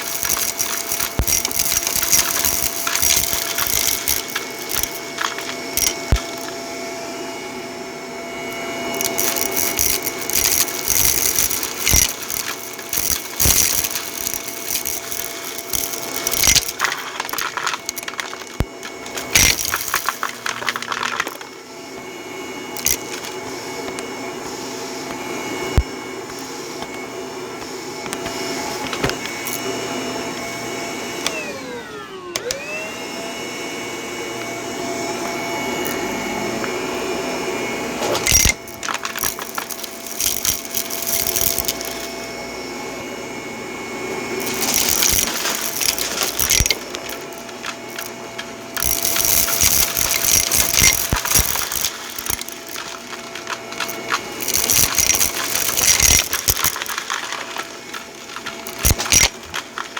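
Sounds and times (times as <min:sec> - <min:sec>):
debris rattling through vacuum: 0:00.0 - 0:06.8, 0:08.4 - 0:27.0, 0:28.3 - 0:29.7, 0:35.7 - 0:42.9, 0:44.0 - 0:59.9
vacuum cleaner running: 0:00.0 - 0:59.9.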